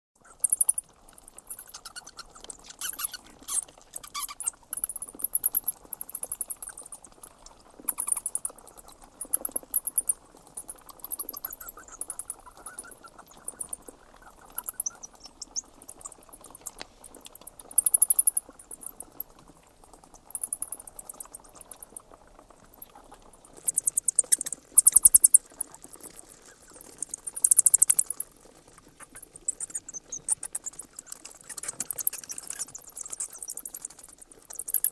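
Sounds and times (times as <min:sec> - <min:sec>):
bats squeaking: 0:00.2 - 0:34.9.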